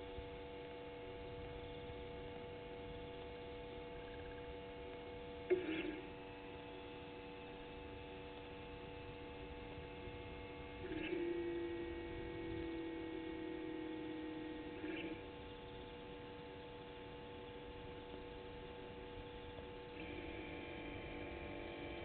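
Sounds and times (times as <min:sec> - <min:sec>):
electrical mains hum: 0:00.0 - 0:22.0
whirring tone: 0:00.0 - 0:22.0.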